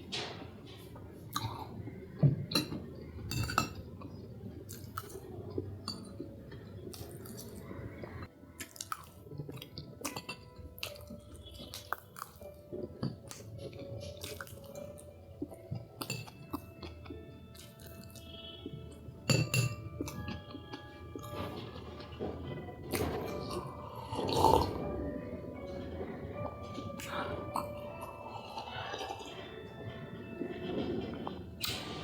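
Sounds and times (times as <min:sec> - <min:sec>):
chewing food: 0:00.0 - 0:32.0.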